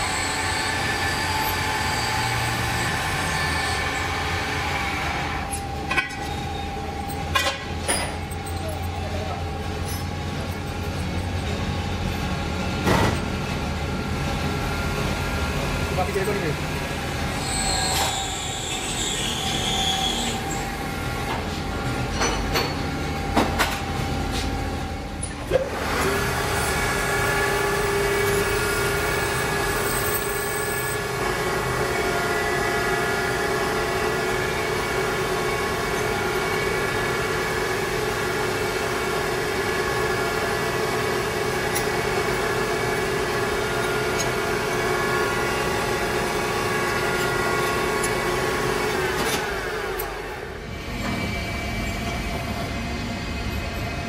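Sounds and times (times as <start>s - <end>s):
metal lathe whining: 0.0s - 12.8s, 13.4s - 54.0s.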